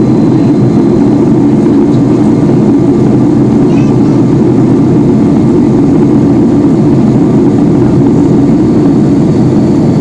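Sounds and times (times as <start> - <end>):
jet engines and airflow in cabin: 0.0 - 10.0.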